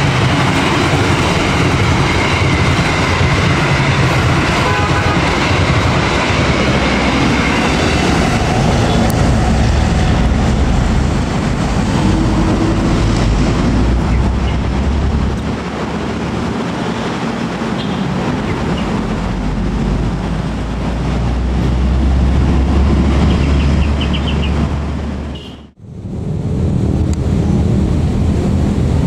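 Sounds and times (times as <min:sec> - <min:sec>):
passenger train rumbling on track: 0:00.0 - 0:29.0
steady rushing noise: 0:00.0 - 0:29.0.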